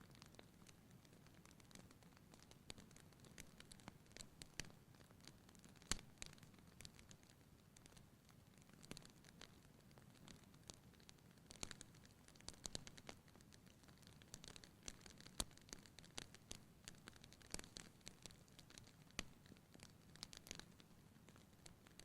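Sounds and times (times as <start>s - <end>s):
soft fire hiss: 0.0s - 22.0s
wood fire crackling and popping: 0.0s - 22.0s.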